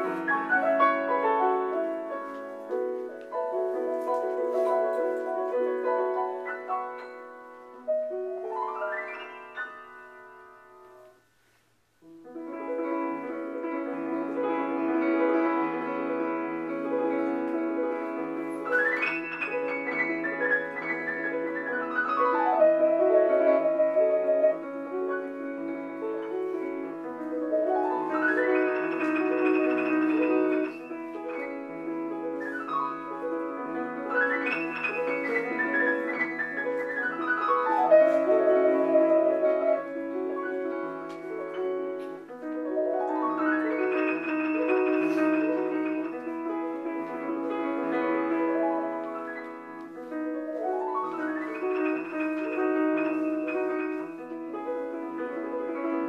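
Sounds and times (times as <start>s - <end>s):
solo piano playing: 0.0s - 11.2s, 12.0s - 56.0s.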